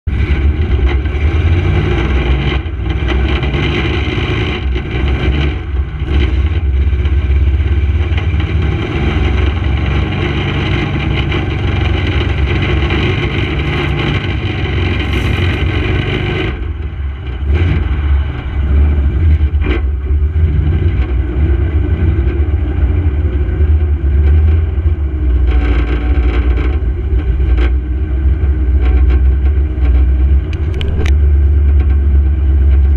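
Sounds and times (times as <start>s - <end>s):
car engine running hard: 0.0s - 32.9s.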